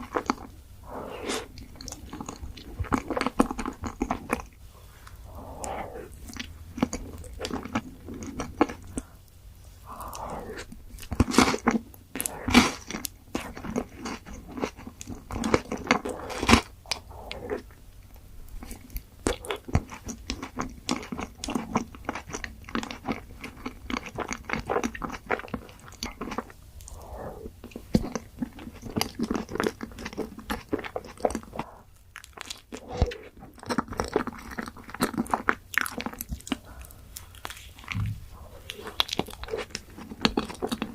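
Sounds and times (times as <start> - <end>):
person chewing crunchy ice cream: 0.0 - 40.9.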